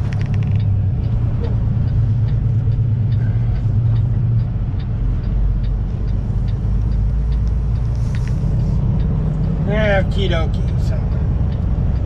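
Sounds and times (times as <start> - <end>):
diesel truck engine rumbling: 0.0 - 12.0
light ticking: 0.0 - 12.0.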